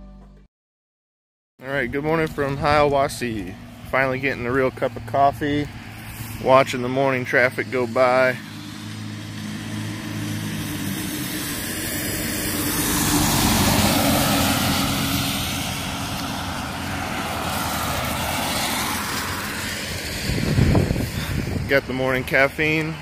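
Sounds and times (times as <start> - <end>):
road traffic engine hum: 1.6 - 23.0
vehicle passing by: 1.7 - 23.0.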